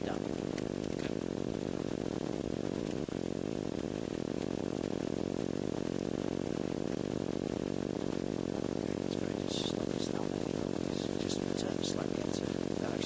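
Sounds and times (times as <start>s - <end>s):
microlight engine and propeller drone: 0.0s - 13.0s.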